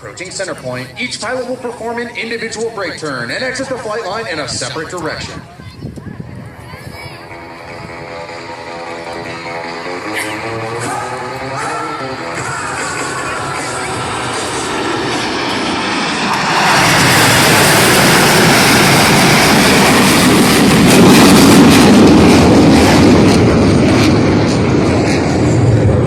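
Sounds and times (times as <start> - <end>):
jets passing: 0.0 - 26.0.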